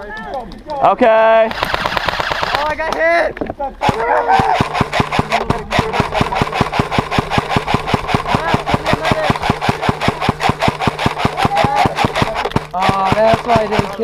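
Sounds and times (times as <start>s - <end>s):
airsoft gun full-auto firing: 1.5s - 2.8s, 3.8s - 14.0s.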